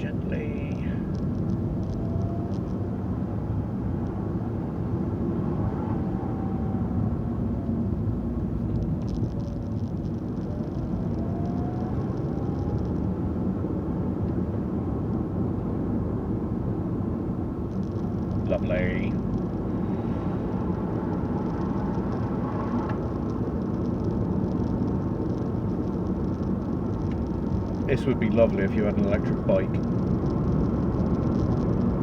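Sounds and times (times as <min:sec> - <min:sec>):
faint whine: 0:00.0 - 0:30.6
car engine and tyre rumble: 0:00.0 - 0:32.0.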